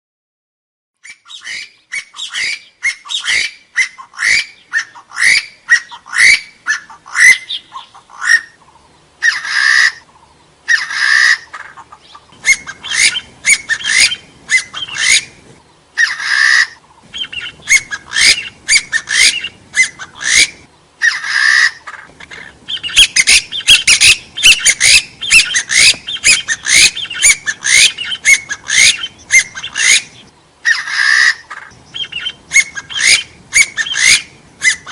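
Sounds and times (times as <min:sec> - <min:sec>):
harsh bird calls: 0:01.0 - 0:34.9.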